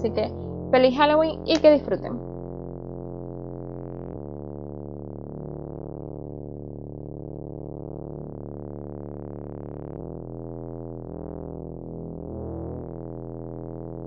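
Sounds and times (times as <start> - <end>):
synthesizer and electric piano chords: 0.0 - 14.0.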